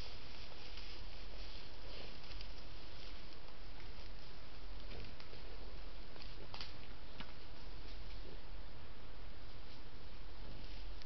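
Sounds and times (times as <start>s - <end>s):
animal rustling through grass: 0.0s - 11.0s
microphone hiss: 0.0s - 11.0s.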